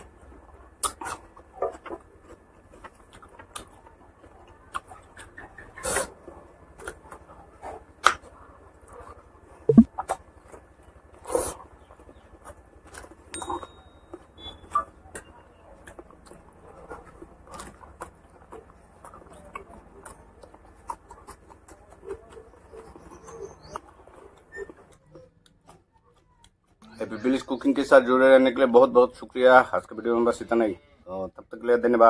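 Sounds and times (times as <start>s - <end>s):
chewing and lip-smacking: 0.0s - 27.0s.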